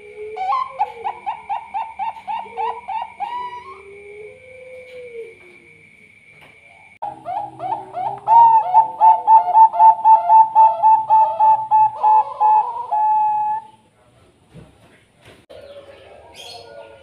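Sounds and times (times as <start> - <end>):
dove cooing: 0.0 - 6.0, 6.8 - 13.8, 15.5 - 17.0.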